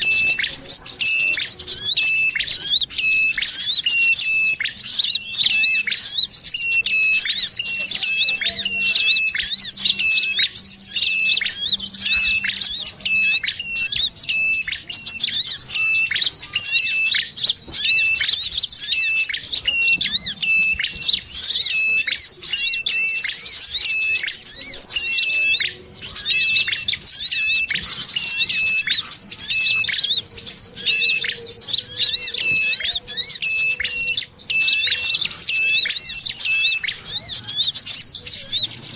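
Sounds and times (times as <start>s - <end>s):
small birds chattering: 0.0s - 38.9s.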